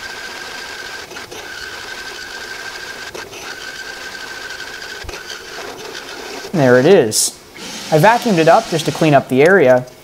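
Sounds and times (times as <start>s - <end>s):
drill press grinding whine: 0.0s - 9.4s.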